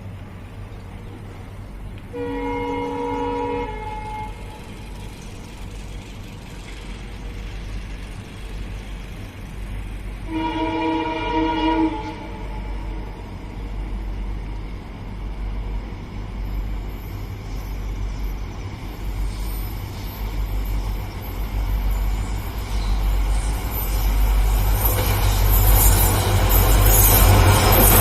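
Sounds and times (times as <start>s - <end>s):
diesel locomotive engine rumble: 0.0s - 28.0s.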